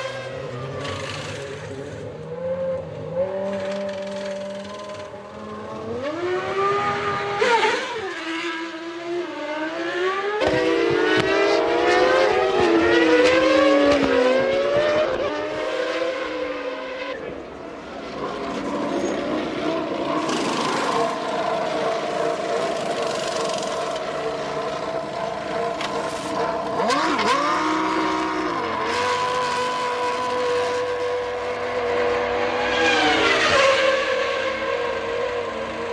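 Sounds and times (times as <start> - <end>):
racing car engines passing: 0.0 - 35.9.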